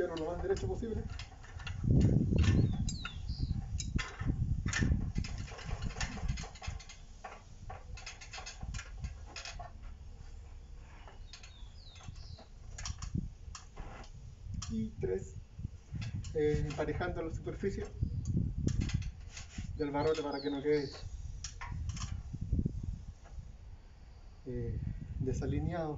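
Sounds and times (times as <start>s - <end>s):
metallic clicks and creaks: 0.0s - 22.5s.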